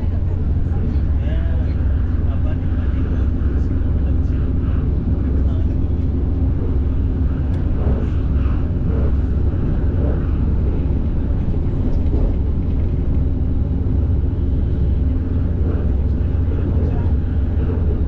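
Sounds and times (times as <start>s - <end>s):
moving train rumbling: 0.0s - 18.0s.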